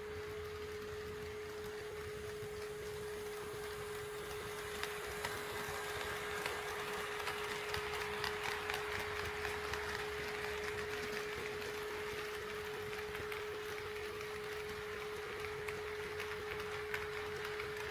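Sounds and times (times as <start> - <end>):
model train rolling: 0.0 - 17.9
wheels clicking over rail joints: 0.0 - 17.9.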